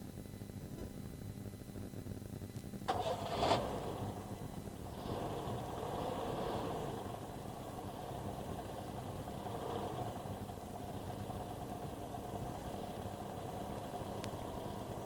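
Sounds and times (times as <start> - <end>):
engine idling: 2.8 - 15.0.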